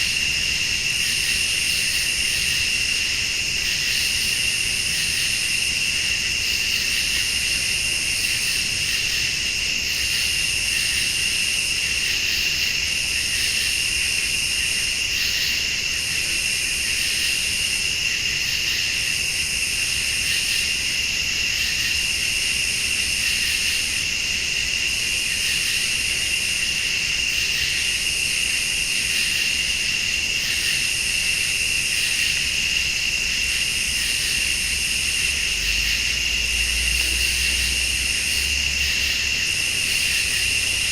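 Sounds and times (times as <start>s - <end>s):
crickets trilling: 0.0s - 40.9s
pulsing high insect call: 0.0s - 40.9s.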